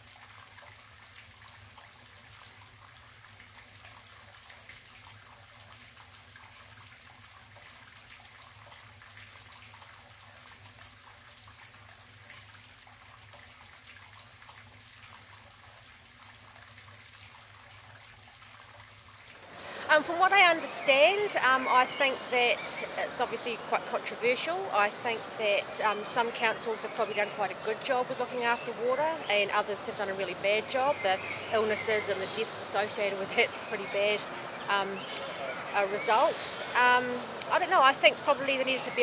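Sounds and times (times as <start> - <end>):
low steady hum: 0.0 - 39.0
trickling water: 0.0 - 39.0.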